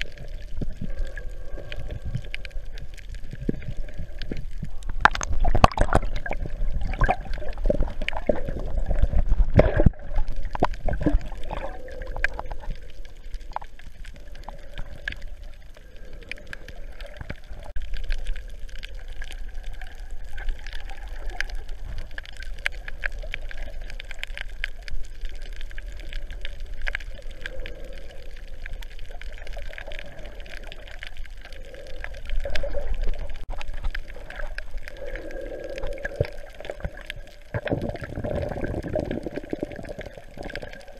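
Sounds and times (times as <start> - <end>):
underwater water gurgling: 0.0 - 40.9.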